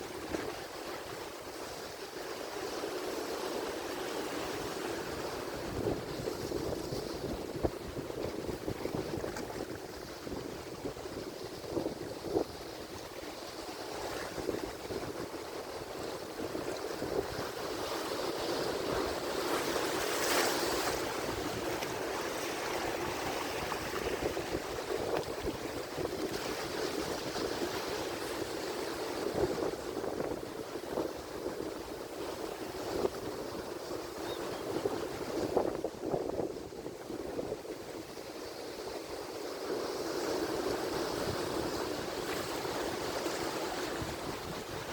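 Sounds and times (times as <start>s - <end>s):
ocean waves breaking: 0.0s - 35.6s, 37.7s - 44.9s.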